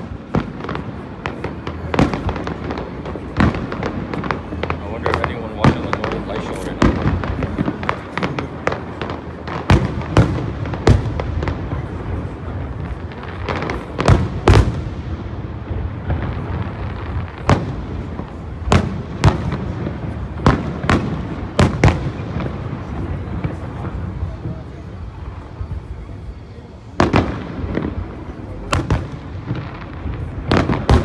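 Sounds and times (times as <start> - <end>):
rumble and crackle of fireworks: 0.0 - 31.0.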